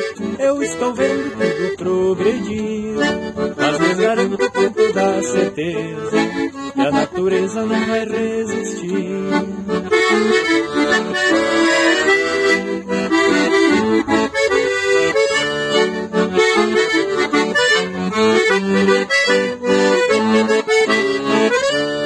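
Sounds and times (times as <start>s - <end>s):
accordion playing a quick melody: 0.0s - 22.0s.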